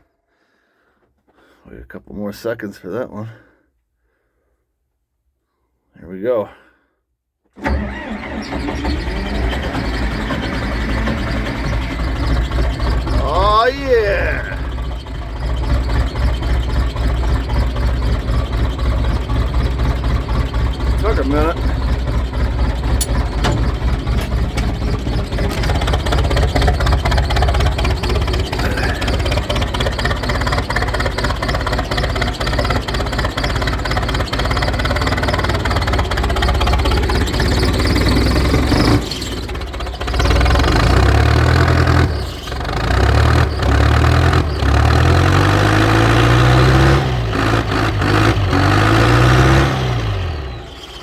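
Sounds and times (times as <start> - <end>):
diesel engine clattering: 7.6 - 51.0
diesel engine revving: 7.6 - 51.0.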